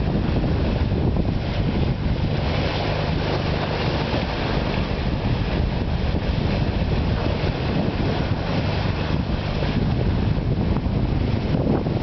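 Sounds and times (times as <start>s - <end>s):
water rushing along ship's bow: 0.0s - 12.0s
wind noise on microphone: 0.0s - 12.0s.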